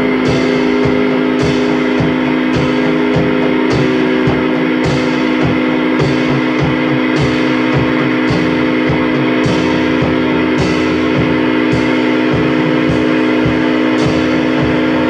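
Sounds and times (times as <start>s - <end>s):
drum kit beat: 0.0s - 15.0s
guitar strumming: 0.0s - 15.0s
vacuum cleaner hum: 0.0s - 15.0s.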